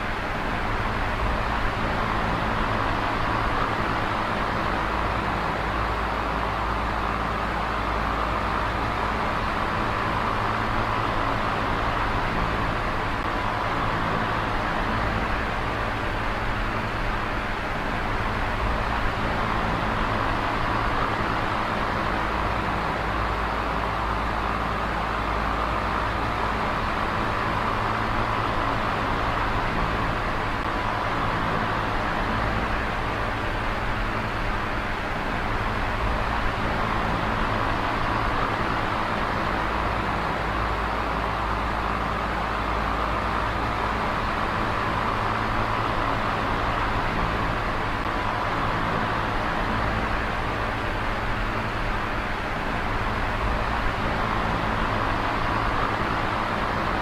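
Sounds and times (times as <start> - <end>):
oscillating fan air whoosh: 0.0 - 57.0.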